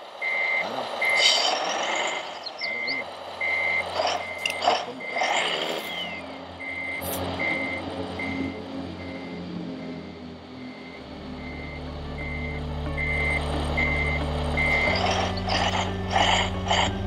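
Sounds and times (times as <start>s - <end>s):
electronic reversing beeper: 0.2s - 17.0s.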